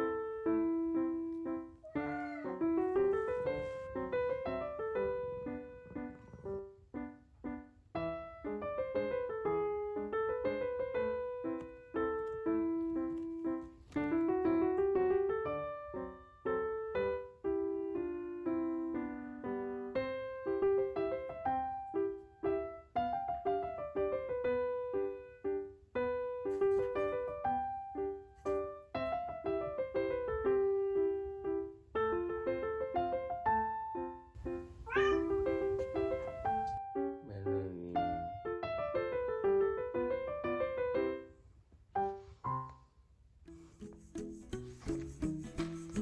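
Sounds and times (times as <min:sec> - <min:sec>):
gentle piano melody: 0:00.0 - 0:42.9.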